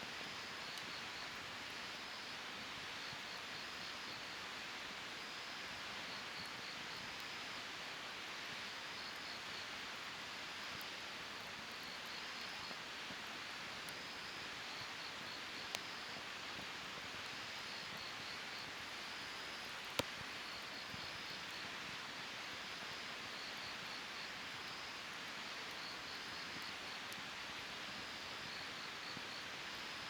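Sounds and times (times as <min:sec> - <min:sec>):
campfire hissing and crackling: 0:00.0 - 0:30.0.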